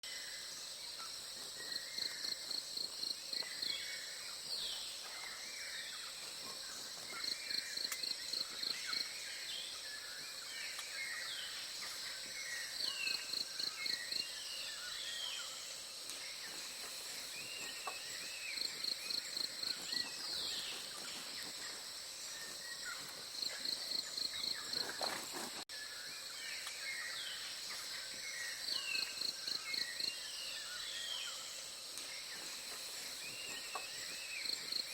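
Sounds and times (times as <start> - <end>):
insect drone: 0.0 - 34.9.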